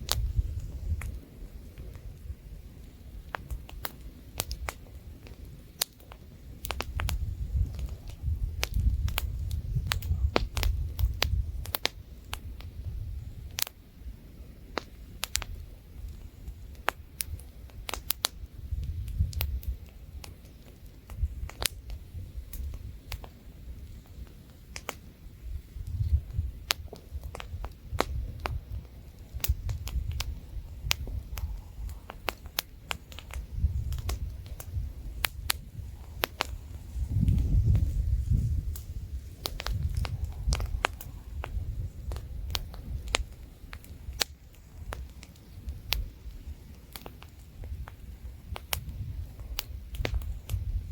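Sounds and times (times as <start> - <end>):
campfire crackling and popping: 0.0 - 50.9
light wind rumble: 0.0 - 50.9.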